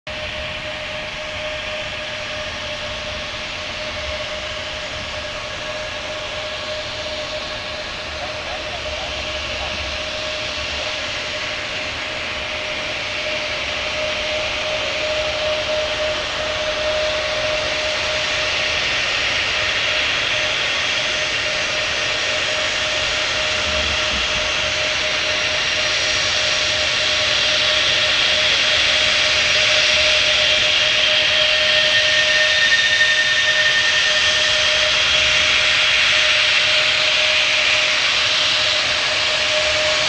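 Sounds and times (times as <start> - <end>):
jet aircraft engines whining: 0.1 - 40.0.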